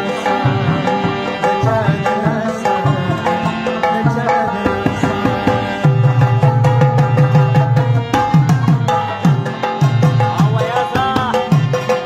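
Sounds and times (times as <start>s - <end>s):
hand drums: 0.0s - 12.0s
harmonium melody: 0.0s - 12.0s.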